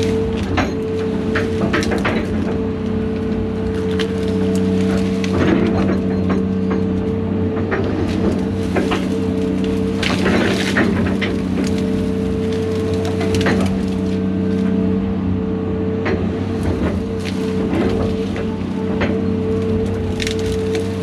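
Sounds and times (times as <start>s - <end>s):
wood cracking and splintering: 0.0s - 14.9s, 16.1s - 21.0s
heavy diesel engine running: 0.0s - 21.0s.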